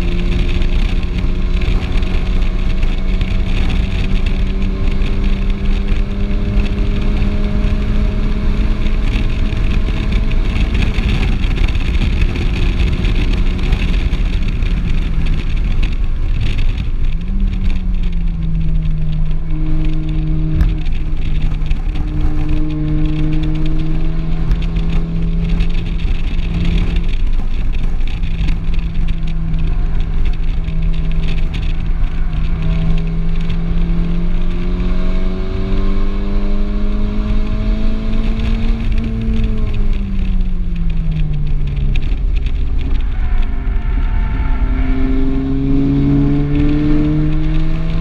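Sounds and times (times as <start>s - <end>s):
car engine under load: 0.0s - 48.0s
wind and tyre noise: 0.0s - 48.0s.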